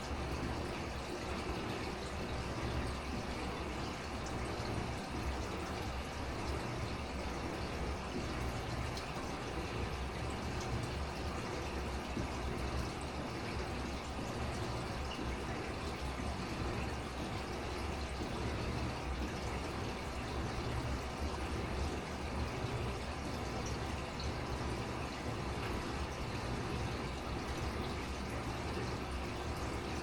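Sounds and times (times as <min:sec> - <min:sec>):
aquarium water running: 0:00.0 - 0:30.0.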